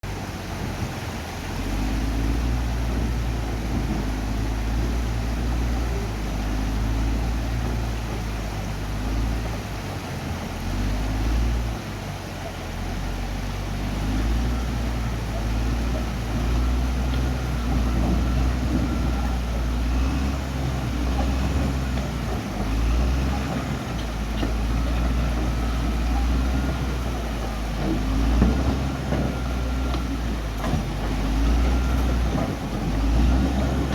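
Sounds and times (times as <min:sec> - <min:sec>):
bulldozer diesel engine rumbling: 0:00.0 - 0:33.9.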